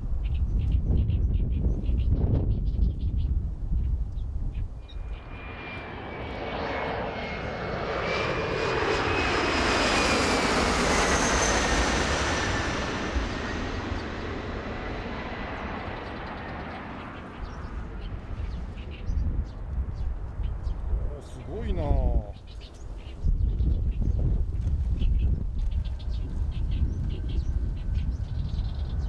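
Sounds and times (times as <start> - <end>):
airliner passing overhead: 0.0 - 29.0
jet engine whine: 3.3 - 29.0.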